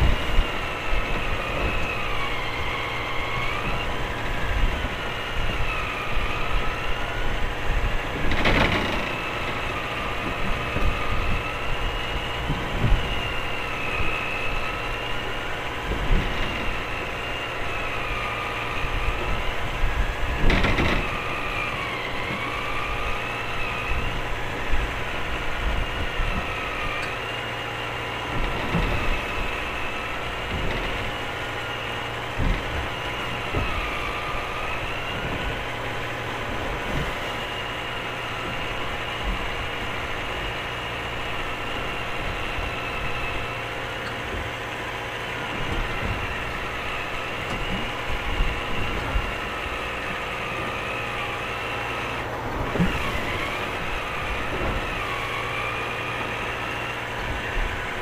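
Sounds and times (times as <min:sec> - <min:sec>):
boat engine running: 0:00.0 - 0:58.0
engine whine: 0:00.0 - 0:58.0.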